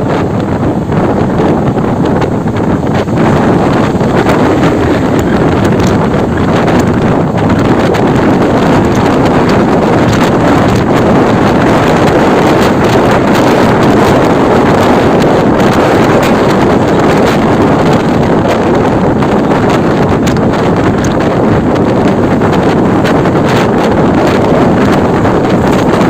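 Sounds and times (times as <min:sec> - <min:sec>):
road traffic: 0:00.0 - 0:26.0
wind buffeting microphone: 0:00.0 - 0:26.0.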